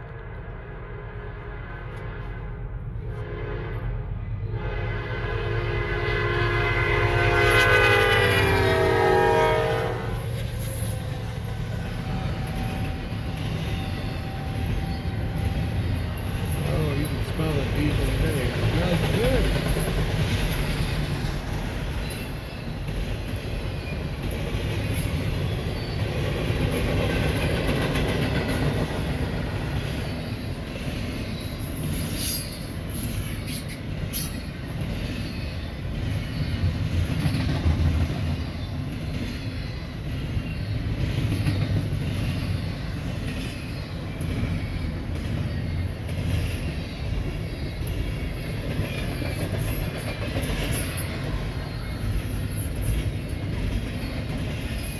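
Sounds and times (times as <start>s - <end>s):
freight train rumbling past: 0.0s - 54.9s
wheels clicking over rail joints: 10.2s - 54.9s.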